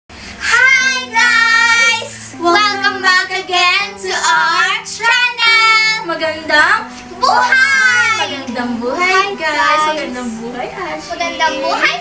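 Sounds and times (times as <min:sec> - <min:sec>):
backing music: 0:00.1 - 0:12.0
child singing: 0:00.4 - 0:06.6, 0:07.2 - 0:12.0.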